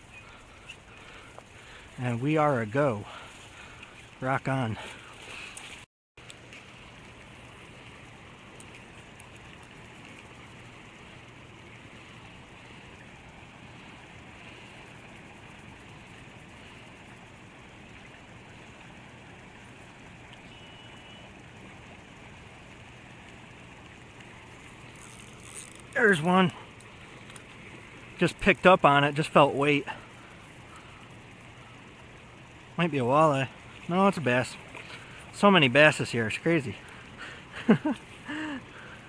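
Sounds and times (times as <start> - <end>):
flowing river water: 0.0 - 39.0.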